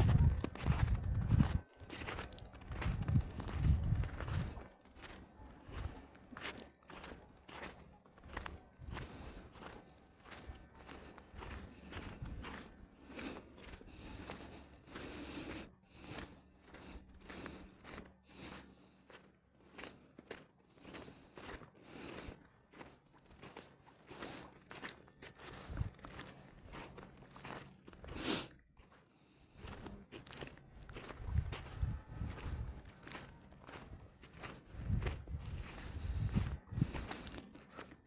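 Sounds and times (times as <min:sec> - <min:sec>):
footsteps crunching in snow: 0:00.0 - 0:38.0.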